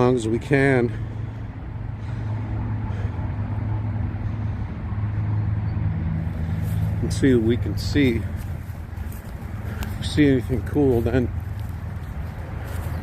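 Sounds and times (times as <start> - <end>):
distant highway traffic rumble: 0.0 - 13.0.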